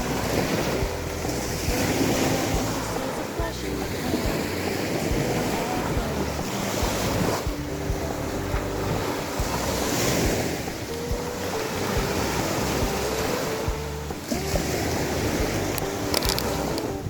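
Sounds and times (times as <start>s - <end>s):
sea waves: 0.0s - 17.0s
wind blowing on microphone: 0.0s - 17.0s.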